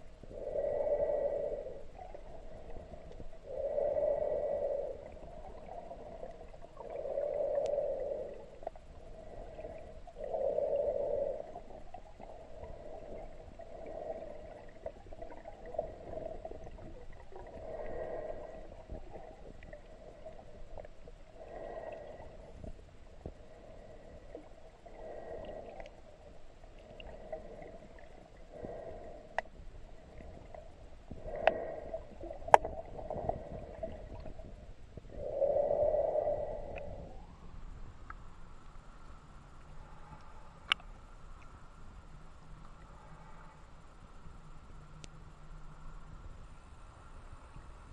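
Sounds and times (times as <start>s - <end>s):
muffled underwater breathing: 0.0s - 39.0s, 42.7s - 44.2s.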